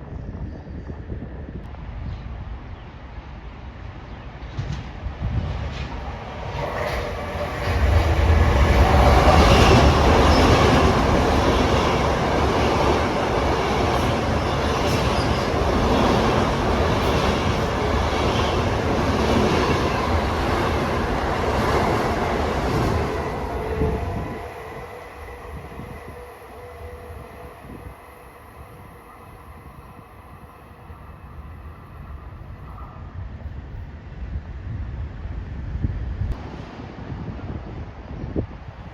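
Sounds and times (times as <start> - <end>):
train passing with rail noise: 0.0 - 38.9.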